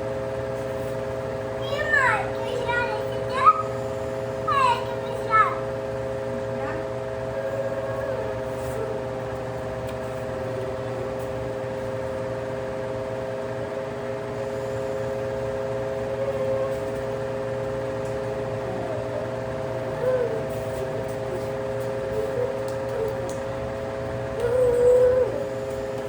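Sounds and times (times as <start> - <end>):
electric fan humming: 0.0 - 26.0.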